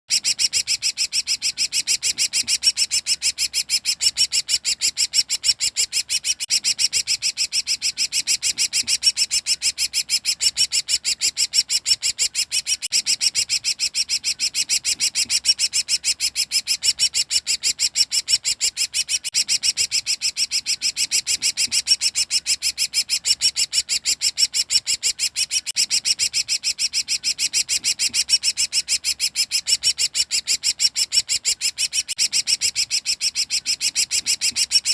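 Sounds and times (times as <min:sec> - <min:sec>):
songbird chattering rapidly: 0:00.1 - 0:34.9.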